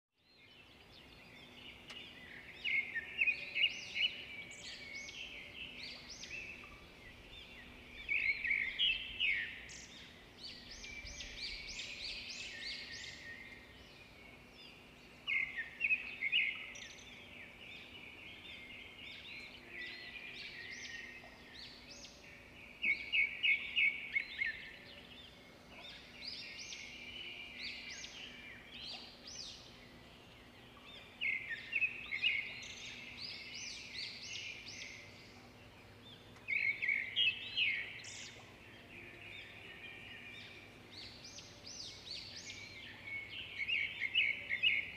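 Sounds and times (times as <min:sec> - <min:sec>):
birds chirping: 0:00.4 - 0:44.9.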